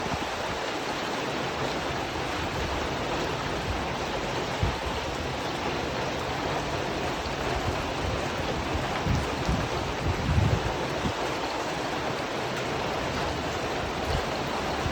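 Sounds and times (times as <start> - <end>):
heavy rain drumming on a tin roof: 0.0 - 14.9.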